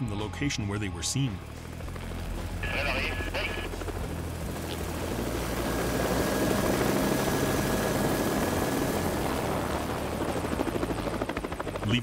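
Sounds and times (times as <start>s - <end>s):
helicopter rotor beat: 0.0s - 12.0s
helicopter turbine whine: 0.0s - 12.0s.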